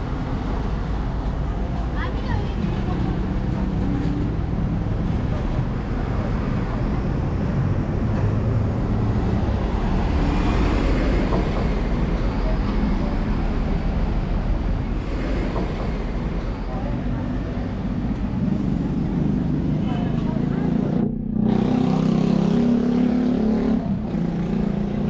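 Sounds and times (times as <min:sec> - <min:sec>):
vehicles passing on road: 0:00.0 - 0:25.0.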